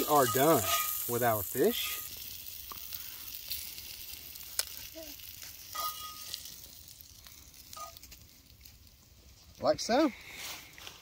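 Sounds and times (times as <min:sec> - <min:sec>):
butter sizzling in a skillet: 0:00.0 - 0:10.8.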